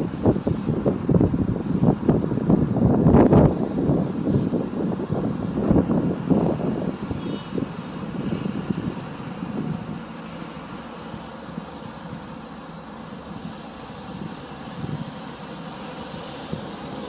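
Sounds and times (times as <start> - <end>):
outdoor engine rumble and hiss: 0.0 - 17.0.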